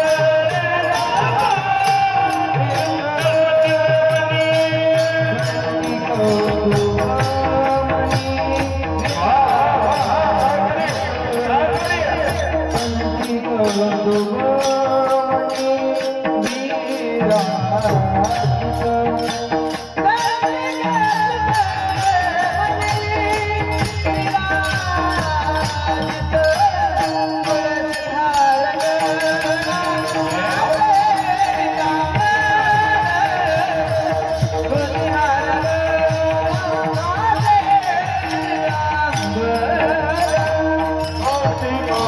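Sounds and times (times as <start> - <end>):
jingling hand percussion: 0.0 - 42.0
person singing: 0.0 - 42.0.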